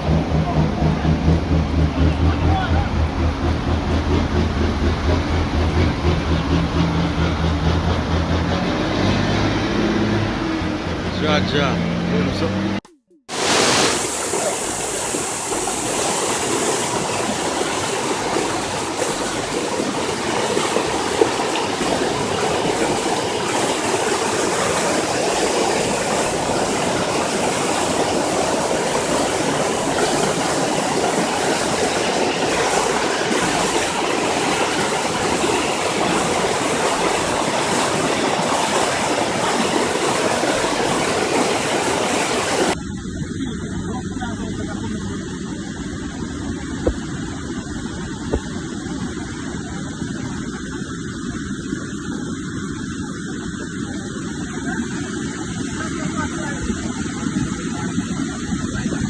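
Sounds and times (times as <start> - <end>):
floodwater rushing: 0.0 - 50.6.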